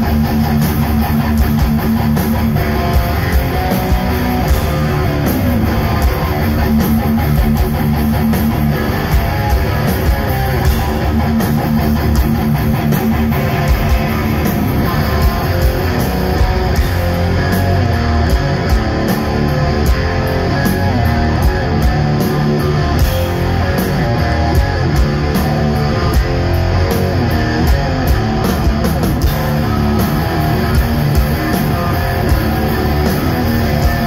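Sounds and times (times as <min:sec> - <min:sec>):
bass guitar: 0:00.0 - 0:34.0
distorted electric guitars: 0:00.0 - 0:34.0
drums: 0:00.0 - 0:34.0.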